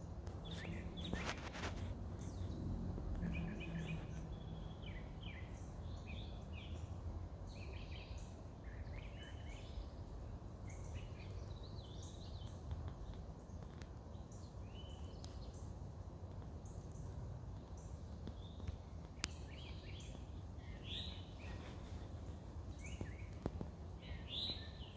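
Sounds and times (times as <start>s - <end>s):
songbirds chirping and singing: 0.0s - 15.8s, 16.4s - 24.9s
low rumble of outdoor noise: 0.0s - 24.9s.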